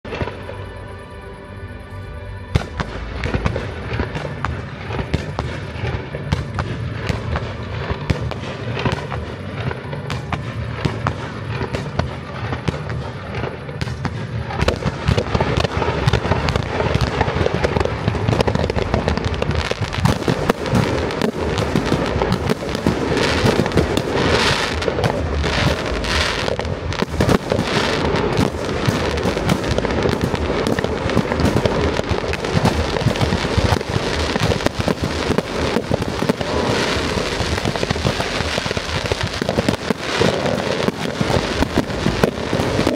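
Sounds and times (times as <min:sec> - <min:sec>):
fireworks crackling and popping: 0:00.0 - 0:00.8, 0:02.4 - 0:42.9.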